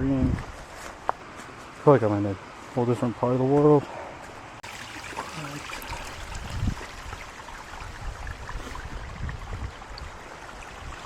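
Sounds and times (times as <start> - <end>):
mountain stream flowing: 0.7 - 11.0.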